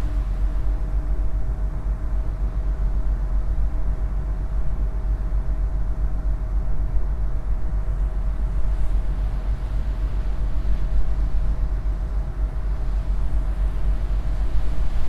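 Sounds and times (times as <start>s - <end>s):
faint hum: 0.0s - 15.0s
low engine rumble: 0.0s - 15.0s.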